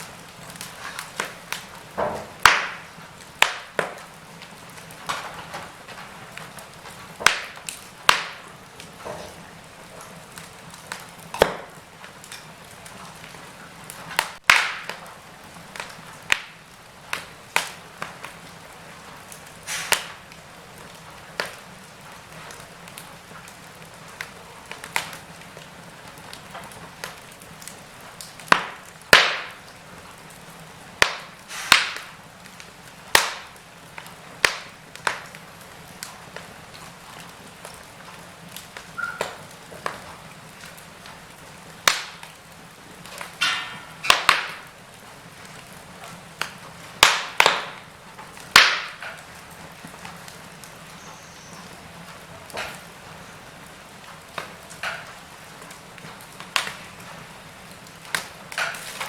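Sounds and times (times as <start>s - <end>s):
fire crackles and pops: 0.0s - 59.0s
wood fire hissing: 0.0s - 59.0s.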